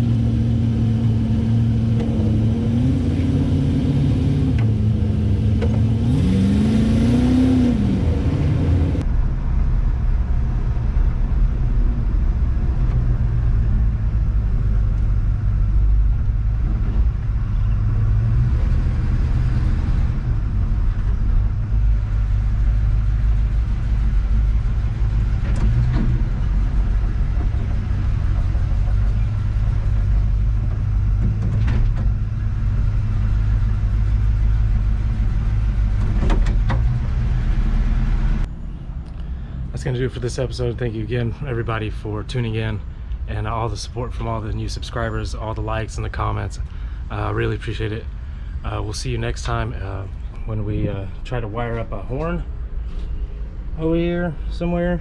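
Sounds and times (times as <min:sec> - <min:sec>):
pickup engine running: 0:00.0 - 0:55.0
road rumble: 0:00.0 - 0:55.0.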